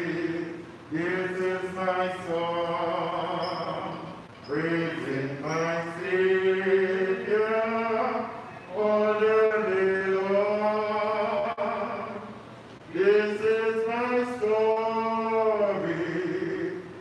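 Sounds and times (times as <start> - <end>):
people singing a slow hymn: 0.0 - 12.3, 12.9 - 16.9.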